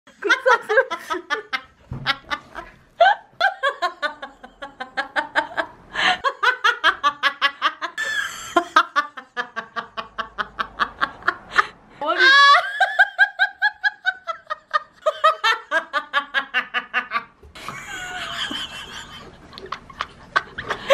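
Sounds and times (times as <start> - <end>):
woman laughing: 0.2 - 20.9.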